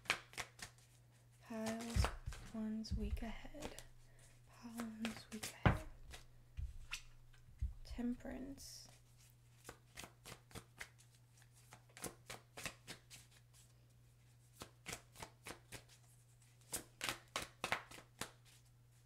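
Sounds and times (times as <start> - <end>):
cards being shuffled: 0.0 - 7.9, 9.2 - 13.7, 14.5 - 18.6.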